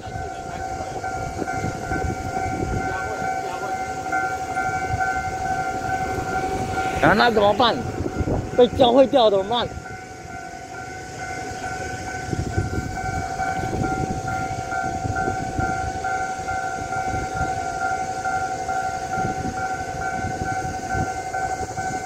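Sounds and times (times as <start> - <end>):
level crossing alarm: 0.0 - 22.0.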